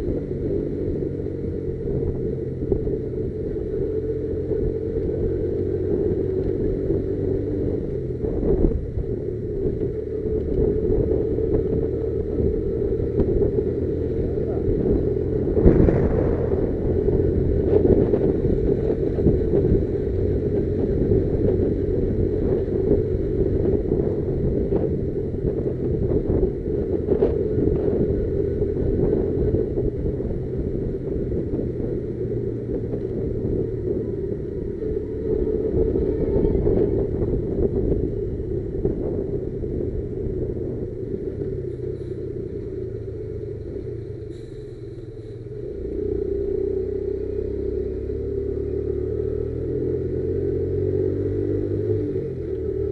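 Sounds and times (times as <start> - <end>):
motorcycle engine rumble: 0.0 - 52.9
road noise: 0.0 - 52.9.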